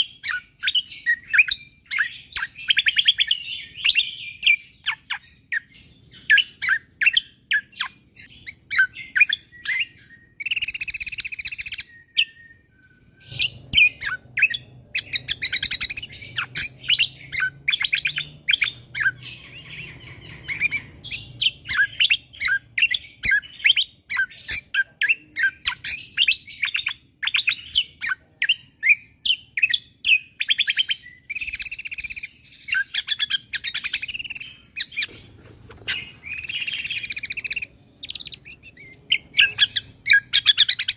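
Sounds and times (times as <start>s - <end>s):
bird chirping and trilling: 0.0s - 40.9s.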